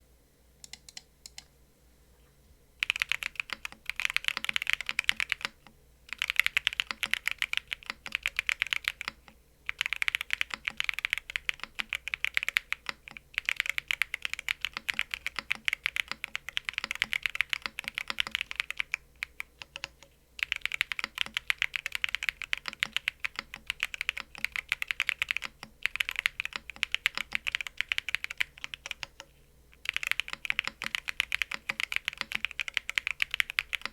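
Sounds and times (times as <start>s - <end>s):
mechanical keyboard typing: 0.6s - 1.5s, 2.8s - 33.9s.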